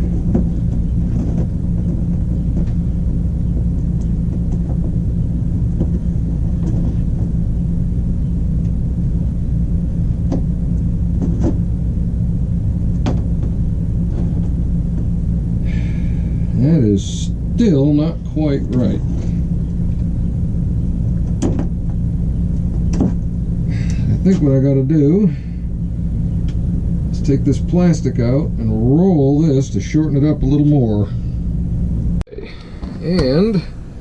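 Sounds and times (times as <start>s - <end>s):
low droning hum: 0.0s - 34.0s.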